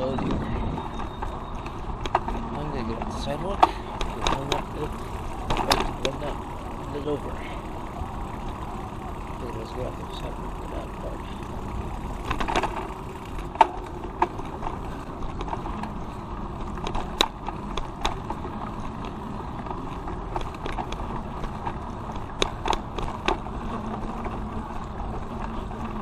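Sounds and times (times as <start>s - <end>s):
bicycle tyre and wind noise: 0.0s - 26.0s
bike clicks and rattles: 0.0s - 26.0s.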